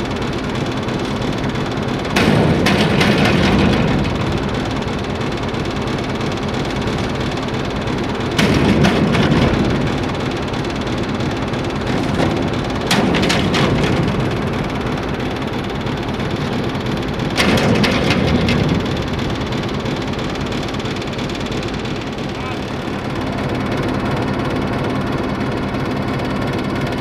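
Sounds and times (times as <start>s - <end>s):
locomotive rumbling: 0.0s - 27.0s.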